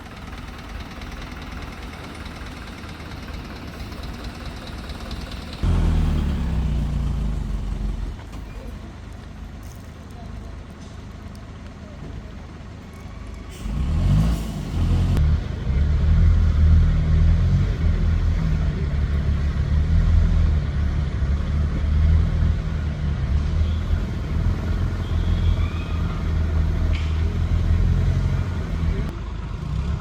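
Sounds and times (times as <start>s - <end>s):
large engine rumbling: 0.0s - 30.0s.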